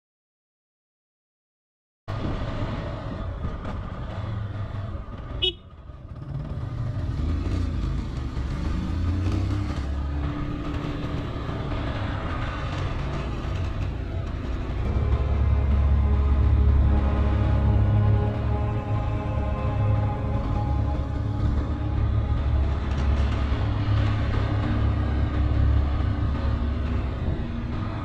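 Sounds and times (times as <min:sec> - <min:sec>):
wind and road noise: 0:02.1 - 0:28.0
motorcycle engine running: 0:03.3 - 0:28.0.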